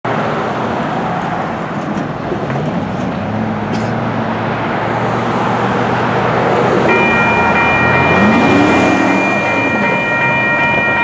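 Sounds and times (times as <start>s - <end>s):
road traffic driving past: 0.1s - 11.0s.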